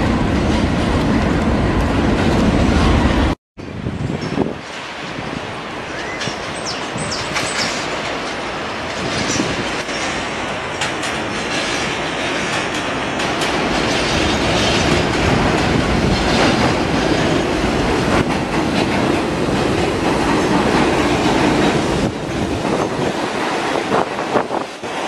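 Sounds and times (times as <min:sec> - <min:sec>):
subway train wheels rumbling on rail: 0:00.0 - 0:25.0.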